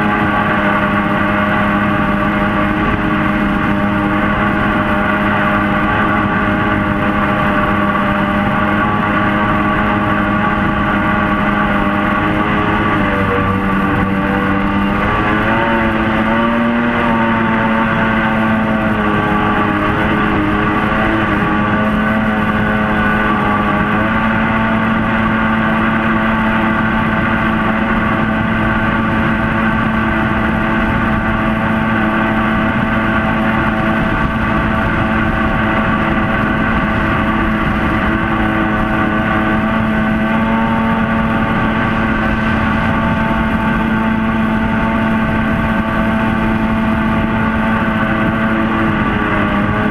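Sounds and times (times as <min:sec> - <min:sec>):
jet boat engine drone: 0:00.0 - 0:49.9.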